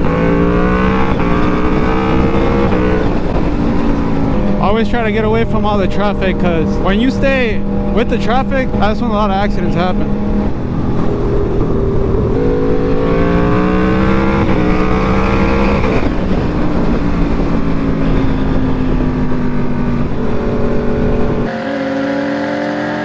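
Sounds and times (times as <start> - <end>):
low engine rumble: 0.0 - 21.7
motorcycle engine accelerating: 0.0 - 23.0.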